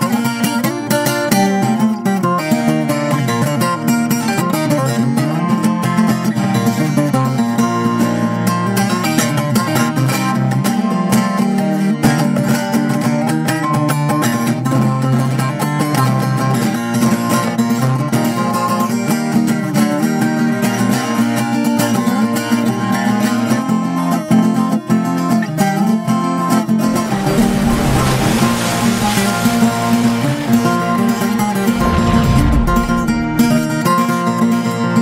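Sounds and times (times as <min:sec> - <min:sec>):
guitar background music: 0:00.0 - 0:35.0.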